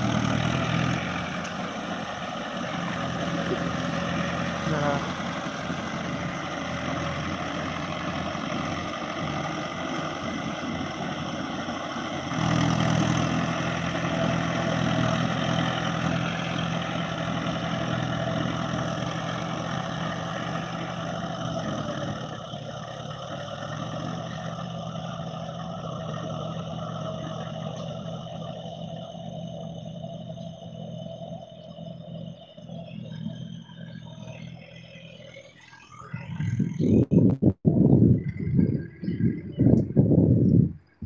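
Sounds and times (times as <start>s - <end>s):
tractor engine running under load: 0.0s - 41.0s.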